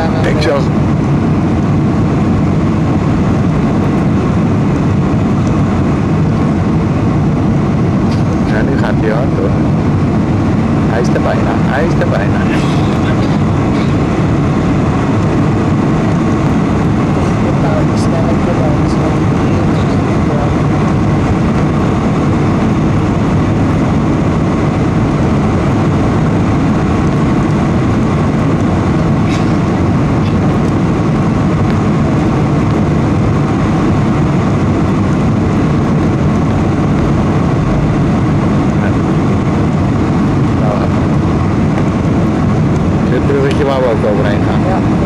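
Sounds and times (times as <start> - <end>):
faint steady whine: 0.0 - 45.0
jet airliner cabin rush: 0.0 - 45.0.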